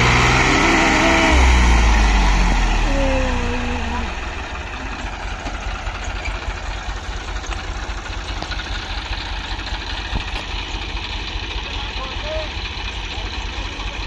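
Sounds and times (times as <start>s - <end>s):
diesel tractor engine idling: 0.0s - 14.0s.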